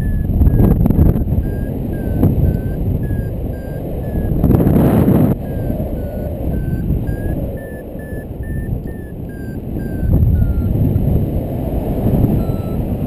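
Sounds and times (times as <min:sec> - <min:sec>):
variometer short beeps: 0:00.0 - 0:10.8, 0:12.3 - 0:13.0
wind rushing over microphone: 0:00.0 - 0:13.0.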